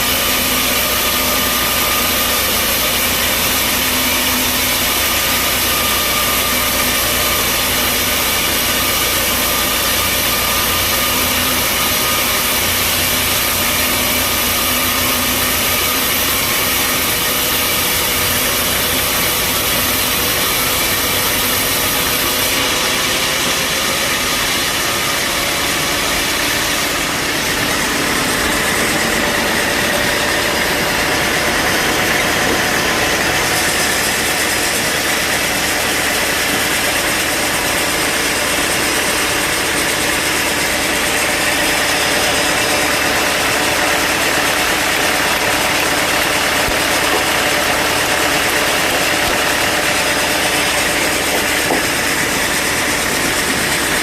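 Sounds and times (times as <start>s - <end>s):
bandsaw sawmill running: 0.0s - 54.0s.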